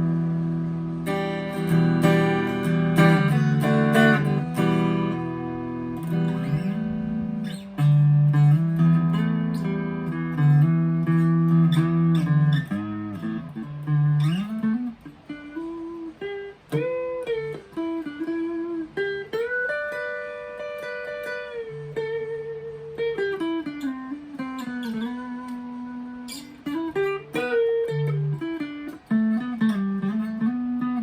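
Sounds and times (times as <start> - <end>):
clean electric guitar: 0.0 - 31.0.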